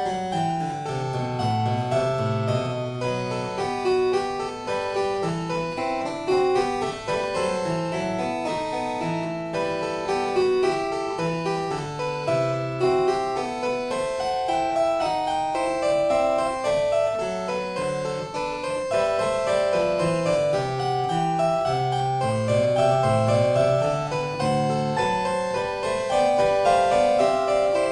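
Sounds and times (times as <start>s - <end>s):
keyboard music: 0.0s - 27.9s.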